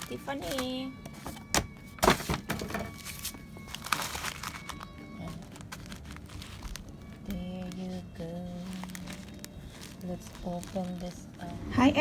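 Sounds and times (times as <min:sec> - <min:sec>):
packaging crinkling and rustling: 0:00.0 - 0:11.9.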